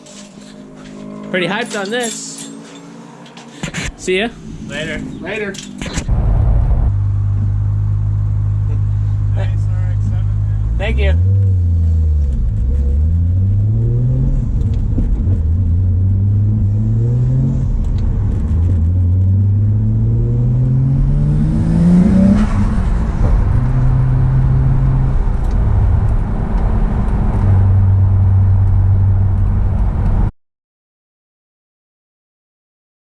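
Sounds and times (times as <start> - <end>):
car engine accelerating: 2.6 - 30.3.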